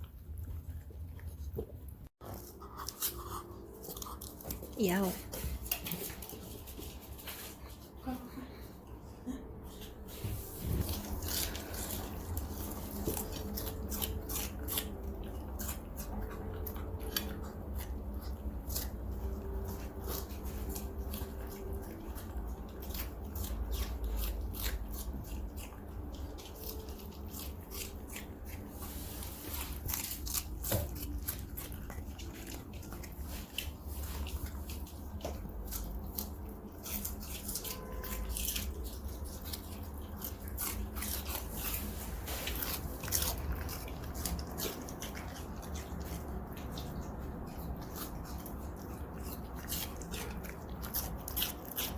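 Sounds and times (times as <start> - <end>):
small pet crunching cabbage: 0.0 - 51.9.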